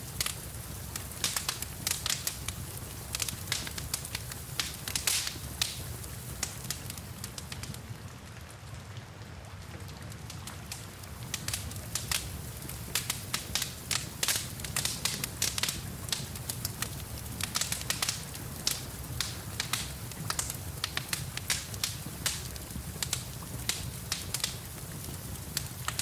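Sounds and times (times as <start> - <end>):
low rumble of flames: 0.0 - 26.0
steady hiss of rain: 0.0 - 26.0
wood fire crackling and popping: 0.0 - 26.0.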